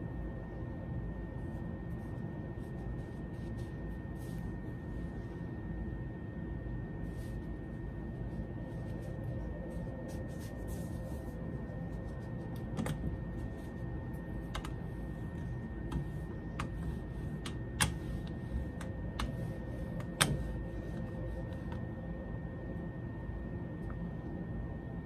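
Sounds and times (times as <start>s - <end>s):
faint high whine: 0.0s - 25.0s
steady low hum: 0.0s - 25.0s.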